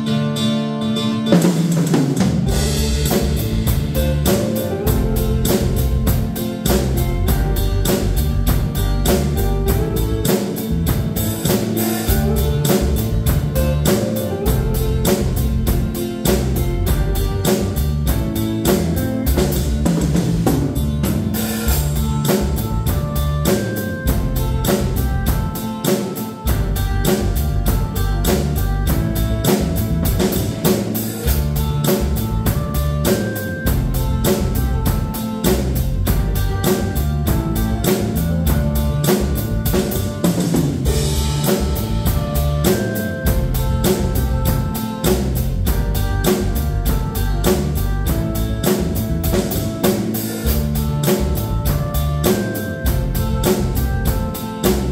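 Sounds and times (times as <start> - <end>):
backing track with guitar: 0.0 - 54.9
drum kit playing steady beat: 0.0 - 54.9.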